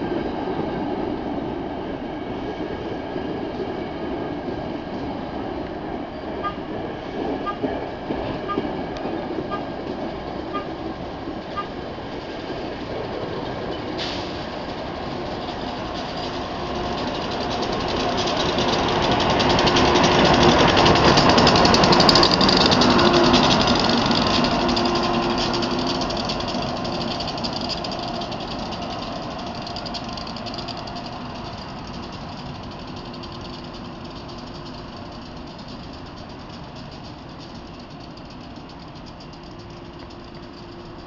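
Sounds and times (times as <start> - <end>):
electric locomotive hum: 0.0 - 41.0
train rolling past: 0.0 - 41.0.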